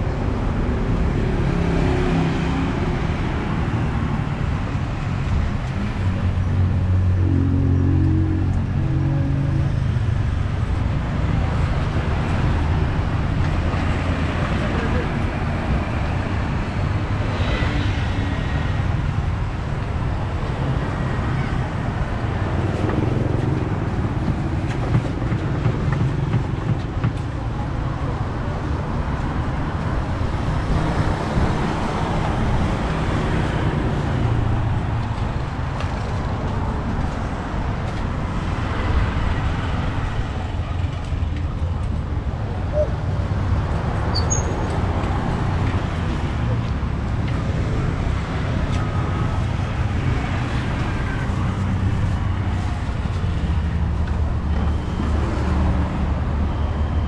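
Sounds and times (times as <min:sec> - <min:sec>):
city street traffic: 0:00.0 - 0:57.0
vehicle engines passing: 0:00.0 - 0:57.0.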